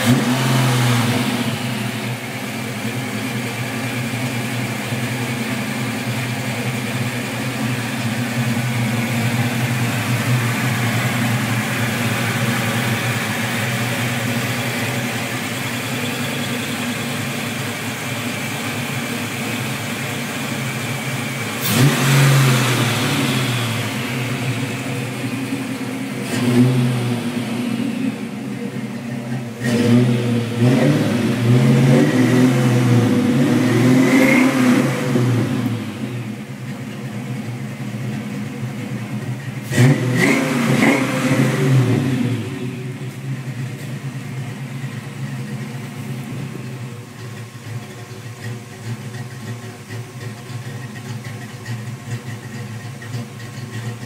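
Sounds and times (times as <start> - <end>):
car engine idling: 0.0 - 54.0
engine throttle blips: 0.0 - 54.0.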